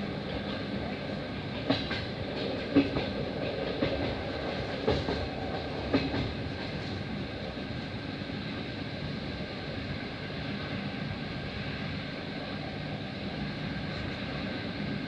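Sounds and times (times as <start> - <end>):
train rumbling along track: 0.0 - 15.0.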